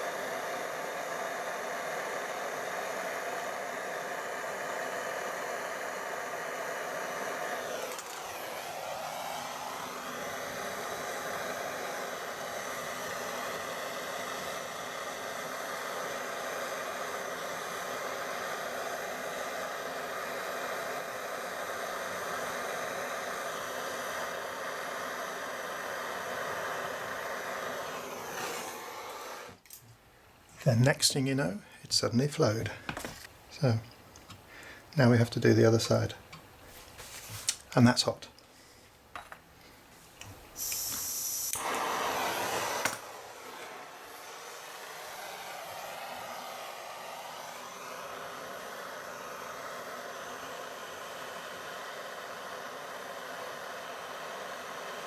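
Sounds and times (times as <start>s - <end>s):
gas blow lamp burning: 0.0s - 55.0s.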